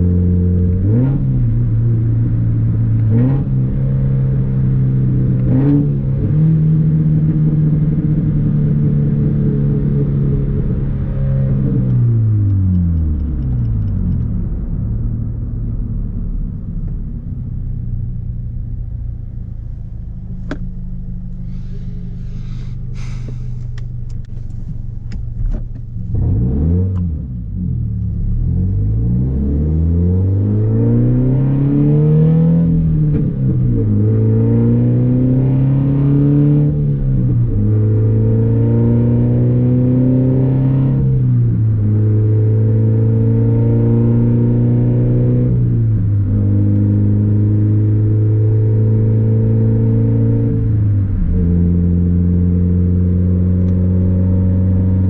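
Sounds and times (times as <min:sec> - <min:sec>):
car engine accelerating and shifting: 0:00.0 - 0:55.0.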